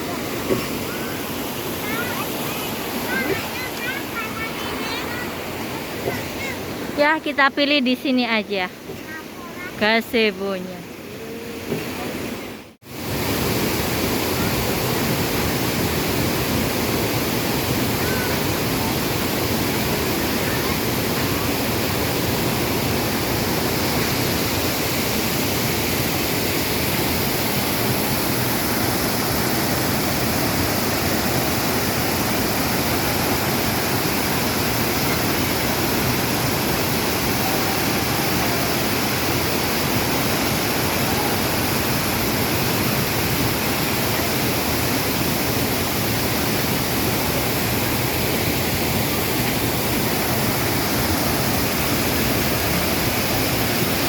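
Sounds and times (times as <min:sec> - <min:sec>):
waterfall and river rushing: 0:00.0 - 0:54.0.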